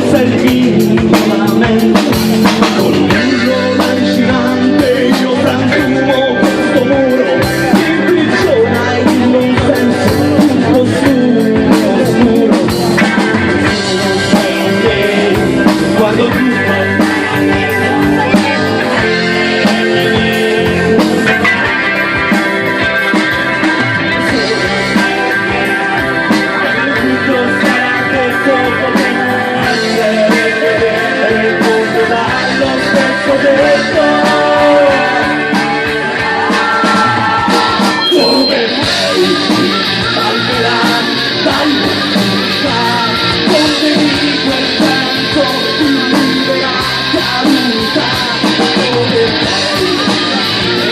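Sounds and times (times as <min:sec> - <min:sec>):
pitch-bending guitar lines: 0:00.0 - 0:50.9
rock band playing live: 0:00.0 - 0:50.9.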